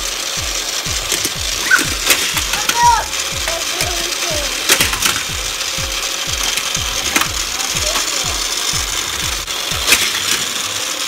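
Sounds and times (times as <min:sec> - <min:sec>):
low swooping beat: 0:00.0 - 0:09.9
toy cars rattling over plastic track: 0:00.0 - 0:11.0
toy track motor whirring: 0:00.0 - 0:11.0
sharp clacks: 0:00.4 - 0:10.7.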